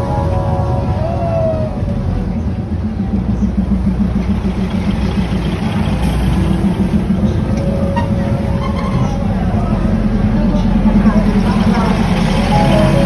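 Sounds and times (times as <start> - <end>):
diesel train engine rumbling: 0.0 - 13.0.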